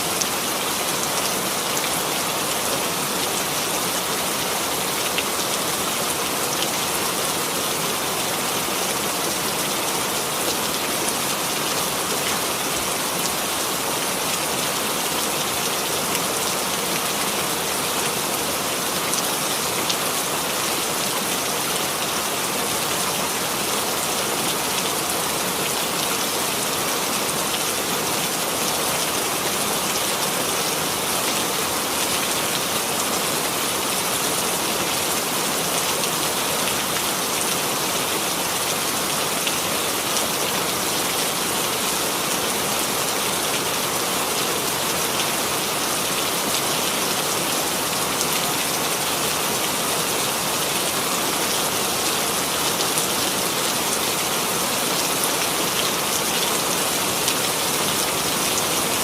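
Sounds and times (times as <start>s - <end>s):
rain on a surface: 0.0s - 59.0s.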